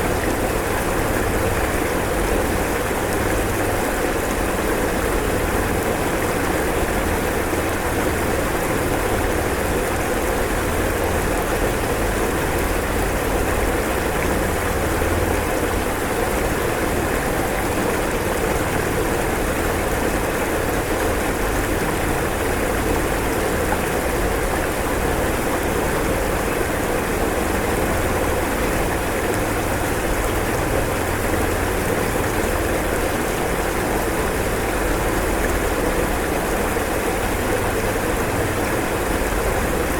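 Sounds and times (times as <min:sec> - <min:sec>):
rushing floodwater: 0:00.0 - 0:39.9.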